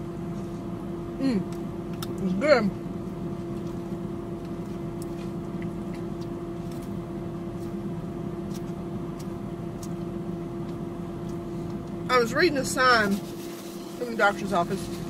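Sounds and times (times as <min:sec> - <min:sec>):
car air conditioning hum: 0:00.0 - 0:15.0.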